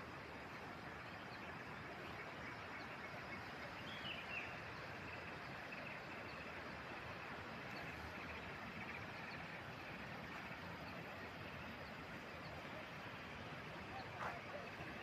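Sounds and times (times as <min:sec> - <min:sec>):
outdoor background rush: 0:00.0 - 0:15.0
faint bird chirps: 0:00.5 - 0:15.0.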